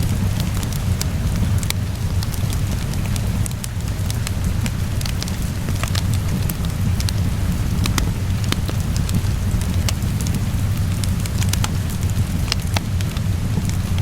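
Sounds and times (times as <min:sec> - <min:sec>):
rain falling: 0:00.0 - 0:14.0
wood fire crackling and popping: 0:00.0 - 0:14.0.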